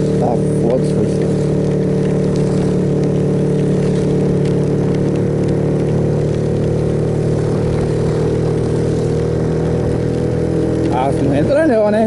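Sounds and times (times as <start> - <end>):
motorcycle engine cruising: 0.0 - 12.0
rain noise: 0.0 - 12.0.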